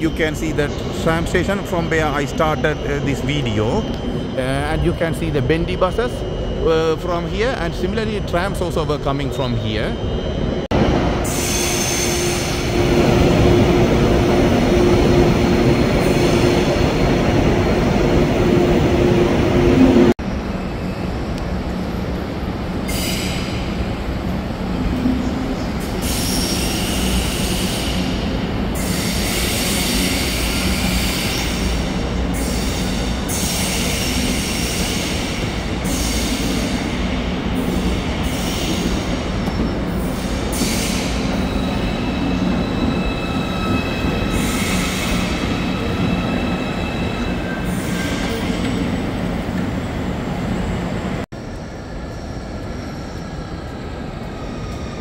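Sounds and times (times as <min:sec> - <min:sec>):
train wheels squealing: 0:00.0 - 0:10.6, 0:11.2 - 0:17.4, 0:22.8 - 0:23.8, 0:24.9 - 0:49.1, 0:51.4 - 0:55.0.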